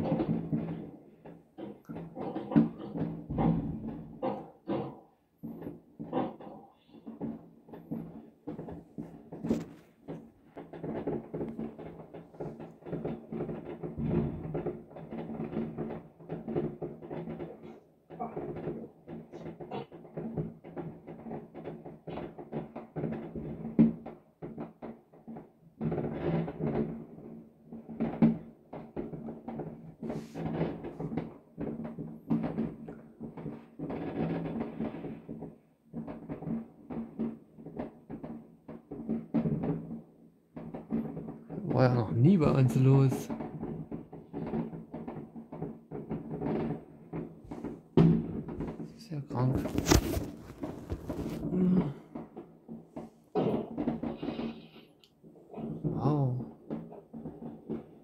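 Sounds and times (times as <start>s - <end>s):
fireworks booms and bangs: 0.0s - 58.0s
rushing fireworks crackle: 0.0s - 58.0s.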